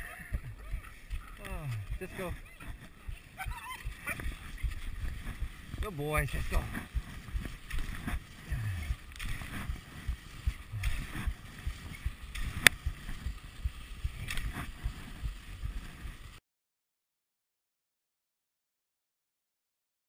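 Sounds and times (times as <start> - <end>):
low thumping: 0.0 - 16.2
skis swishing over snow: 0.0 - 16.4.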